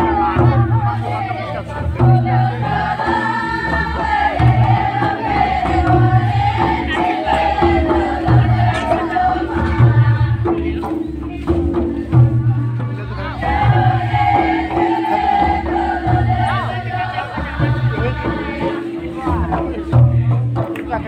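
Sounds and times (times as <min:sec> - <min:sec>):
group singing in unison: 0:00.0 - 0:20.7
repeating drum rhythm: 0:00.0 - 0:21.0.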